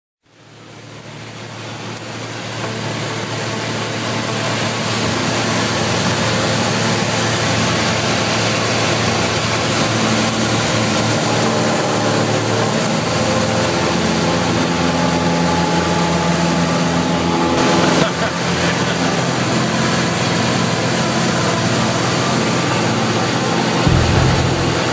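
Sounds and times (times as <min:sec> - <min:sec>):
airplane engine and propeller: 0:00.5 - 0:24.9.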